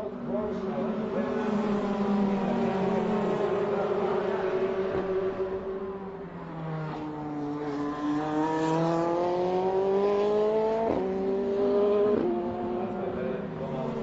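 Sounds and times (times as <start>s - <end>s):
race car engine at full throttle: 0.0s - 14.0s.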